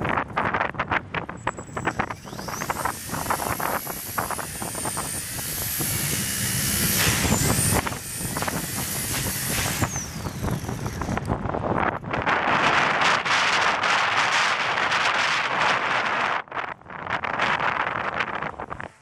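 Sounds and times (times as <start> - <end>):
wind buffeting microphone: 0.0 - 19.0
rc helicopter motor whine: 1.2 - 16.4.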